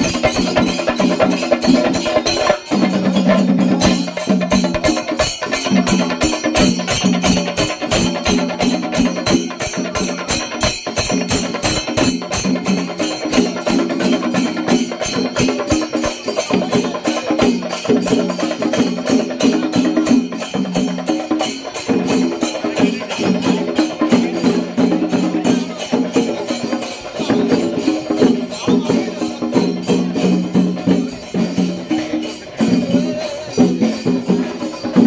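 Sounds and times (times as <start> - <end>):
fast dense percussion: 0.0 - 35.0.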